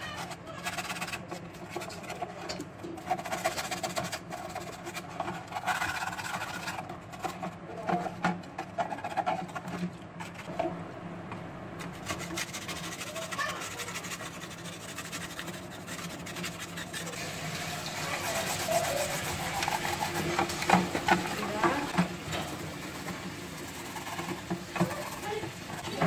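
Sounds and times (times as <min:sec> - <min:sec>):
brushes scrubbing plastic: 0:00.0 - 0:10.7, 0:11.8 - 0:26.0.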